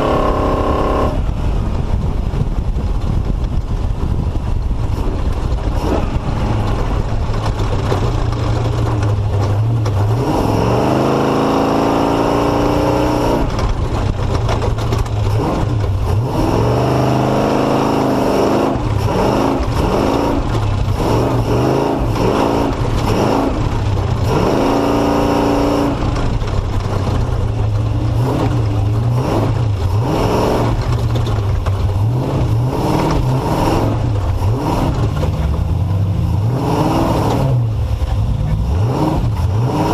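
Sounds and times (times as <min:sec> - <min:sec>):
off-road engine revving: 0:00.0 - 0:01.8, 0:04.3 - 0:39.9
knocks and rattles: 0:01.8 - 0:39.7.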